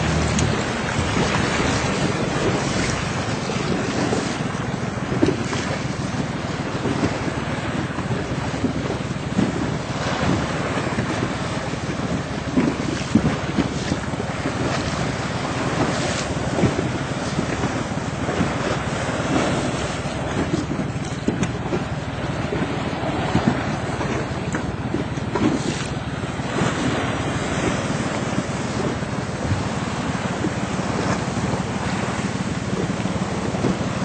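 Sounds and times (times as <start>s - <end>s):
water rushing past boat: 0.0s - 34.0s
wind buffeting microphone: 0.0s - 34.0s.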